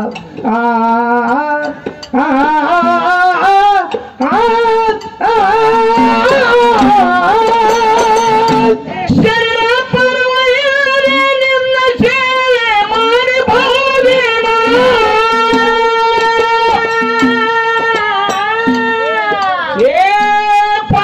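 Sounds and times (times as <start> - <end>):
drum strokes: 0.0 - 21.0
man singing folk song: 0.0 - 21.0.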